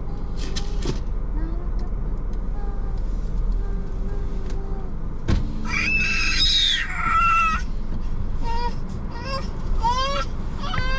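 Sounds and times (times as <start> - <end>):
car interior rumble: 0.0 - 10.9.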